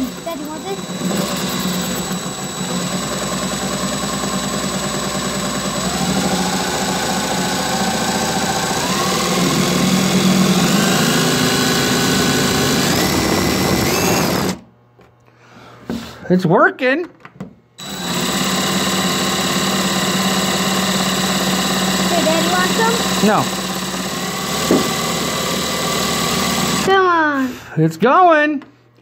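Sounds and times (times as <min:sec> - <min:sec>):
impact driver drilling through glass: 0:00.0 - 0:14.6, 0:17.8 - 0:27.0.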